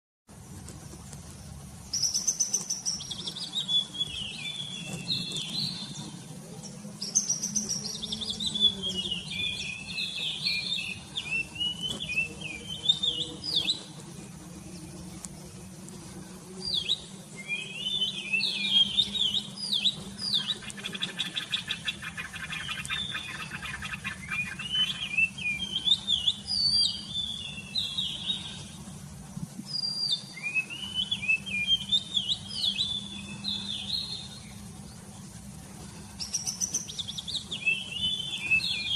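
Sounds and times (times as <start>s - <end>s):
songbirds chirping and warbling: 0.3s - 38.9s.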